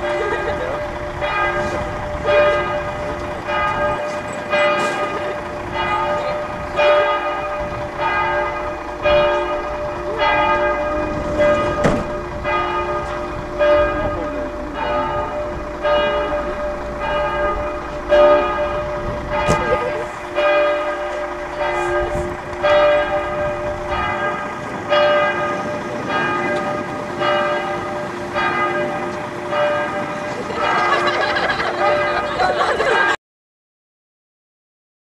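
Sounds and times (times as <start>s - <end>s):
church bells ringing: 0.0s - 33.2s.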